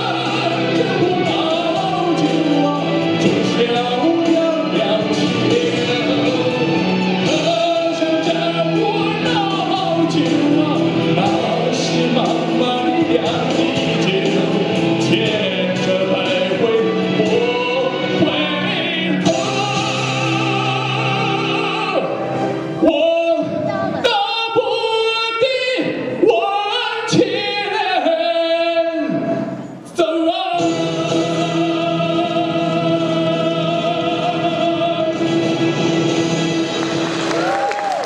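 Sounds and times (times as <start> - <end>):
man singing into a microphone: 0.0 - 36.1.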